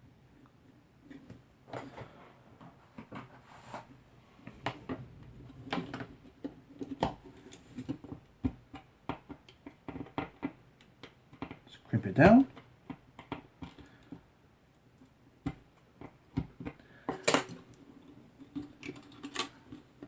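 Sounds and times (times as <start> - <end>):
small clicks and rustles: 0.4 - 11.8, 12.5 - 20.0.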